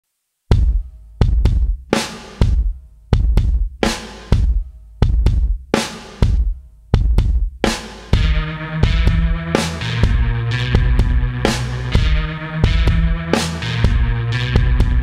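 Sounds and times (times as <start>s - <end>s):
bass and chords: 0.5s - 15.0s
drum beat: 0.5s - 15.0s.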